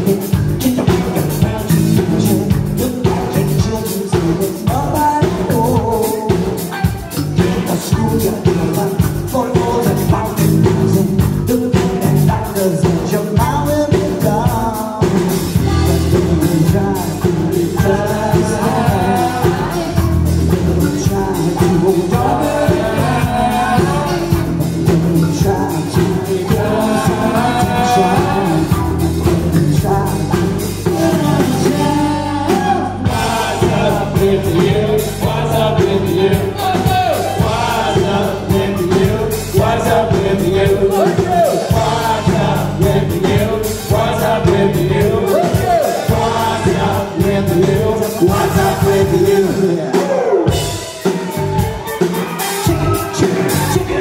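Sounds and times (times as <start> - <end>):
live rock band: 0.0 - 54.0
man singing: 0.0 - 54.0.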